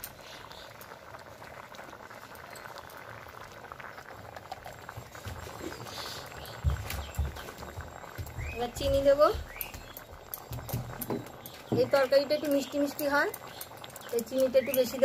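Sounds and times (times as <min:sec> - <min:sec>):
curry boiling with small pops: 0:00.0 - 0:15.0.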